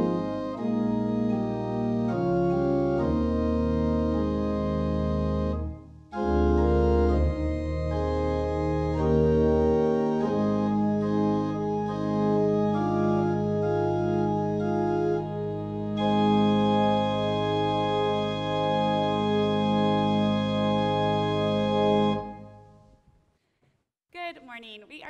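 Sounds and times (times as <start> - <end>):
organ playing sustained chords: 0.0 - 22.8.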